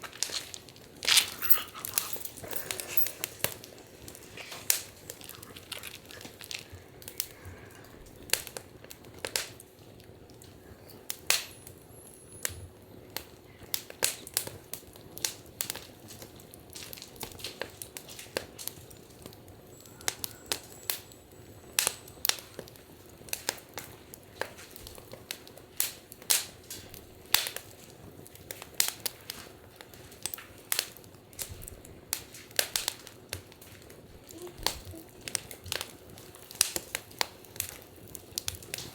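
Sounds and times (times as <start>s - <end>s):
faint steady hiss: 0.0s - 38.9s
wood fire crackling: 0.0s - 38.9s.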